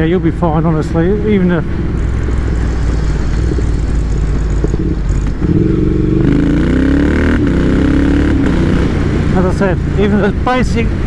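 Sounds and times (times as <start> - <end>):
low traffic rumble: 0.0 - 11.0
vehicle engine accelerating: 0.0 - 11.0.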